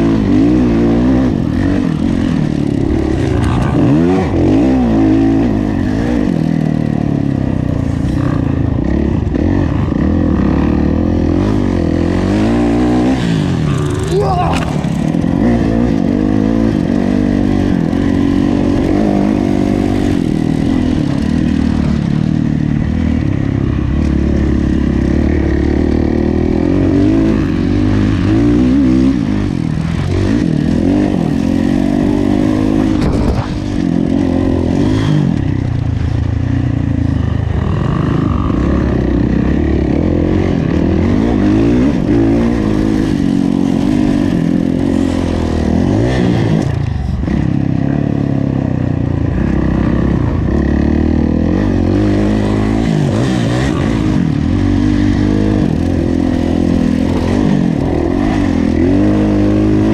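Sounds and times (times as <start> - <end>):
motocross engine revving: 0.0 - 35.7, 37.1 - 59.9.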